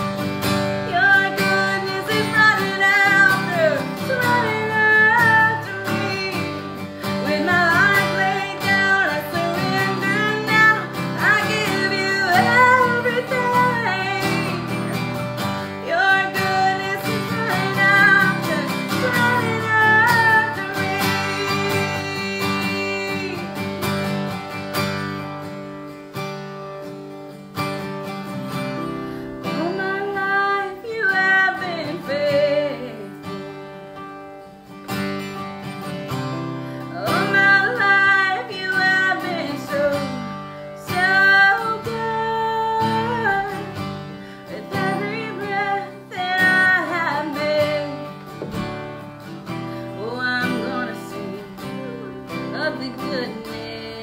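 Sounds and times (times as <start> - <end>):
woman singing: 0.0 - 25.3, 28.4 - 34.1, 35.1 - 54.0
strummed acoustic guitar: 0.0 - 54.0.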